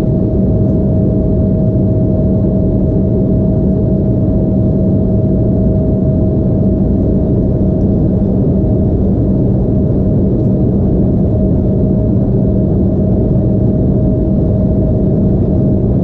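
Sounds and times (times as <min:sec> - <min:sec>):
jet engine and airflow noise: 0:00.0 - 0:16.0
steady hum: 0:00.0 - 0:16.0.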